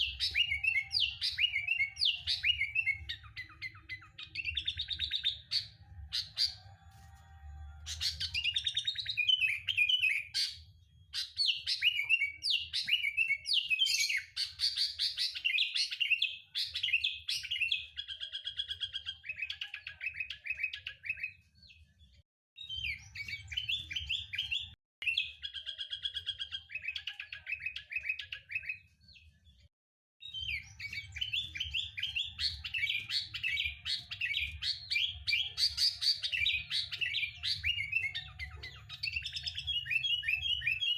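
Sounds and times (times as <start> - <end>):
bird singing chirps and trills: 0.0 - 6.8, 7.4 - 40.9.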